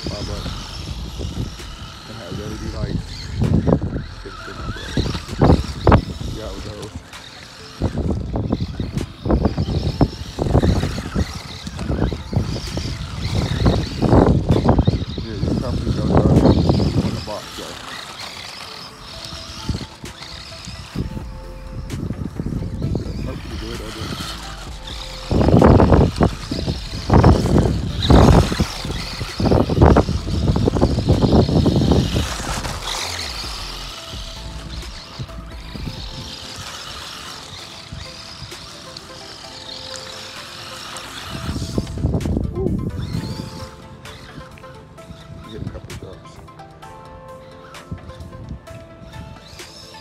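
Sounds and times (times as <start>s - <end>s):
small motor whining: 0.0s - 50.0s
tyres crunching on gravel: 0.0s - 50.0s.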